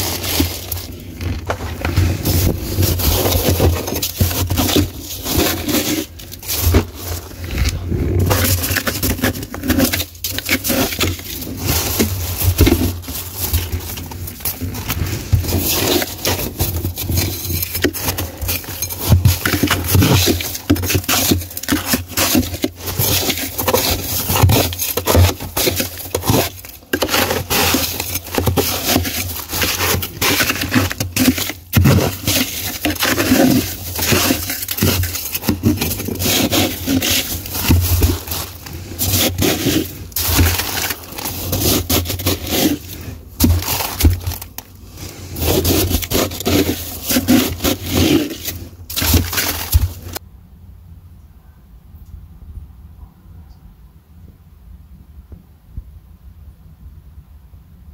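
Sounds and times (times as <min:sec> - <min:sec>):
frost cracking: 0:00.0 - 0:50.2
frost crunching and scraping: 0:00.0 - 0:50.2.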